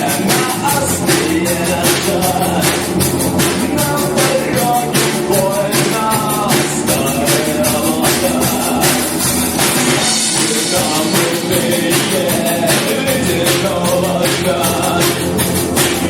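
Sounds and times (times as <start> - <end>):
drum kit beat: 0.0 - 16.0
rock band playing: 0.0 - 16.0.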